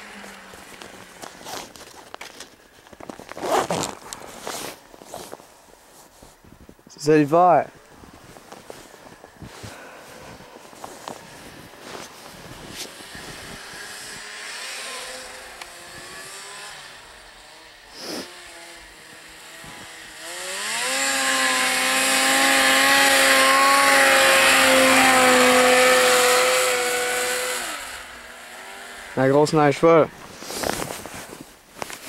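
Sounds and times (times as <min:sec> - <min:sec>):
snowmobile engine passing by: 0:00.0 - 0:02.4, 0:07.0 - 0:32.0.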